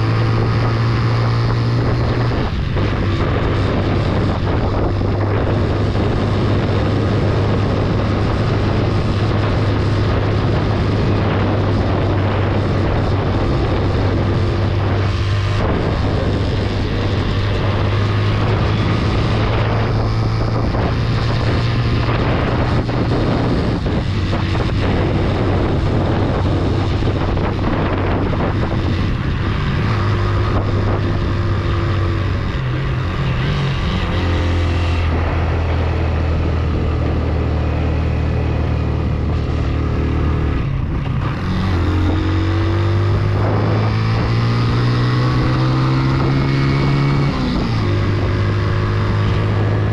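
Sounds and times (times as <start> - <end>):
motorcycle engine under load: 0.0 - 49.9
wind noise on microphone: 0.0 - 49.9.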